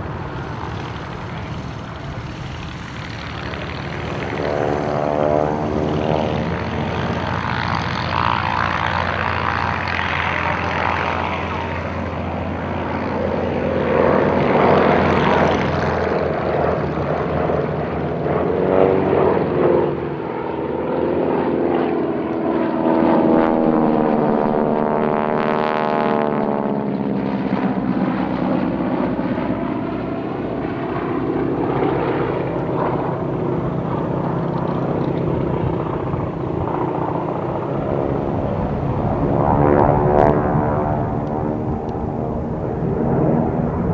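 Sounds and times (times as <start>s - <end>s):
aircraft engine droning: 0.0s - 43.9s.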